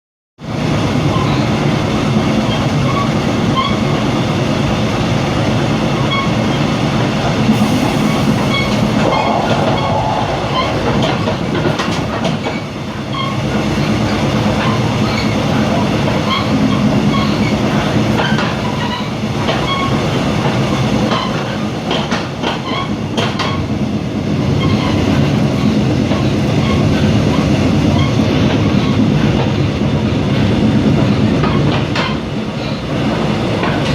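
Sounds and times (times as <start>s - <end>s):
rail joints clickety-clack: 0.4s - 33.9s
train wheel-on-rail rumble: 0.4s - 33.9s.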